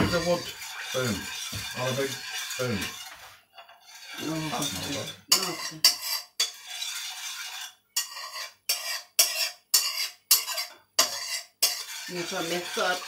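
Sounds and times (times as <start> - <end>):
spoon scraping a pan: 0.0 - 13.0.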